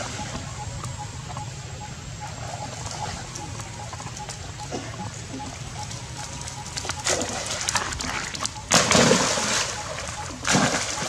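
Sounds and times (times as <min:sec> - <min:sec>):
low background rumble: 0:00.0 - 0:11.0
water movement: 0:00.0 - 0:11.0.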